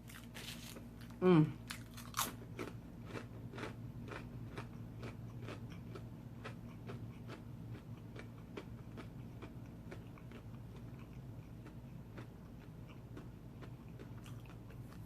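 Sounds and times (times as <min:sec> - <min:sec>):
close chewing mouth sounds: 0:01.0 - 0:15.0.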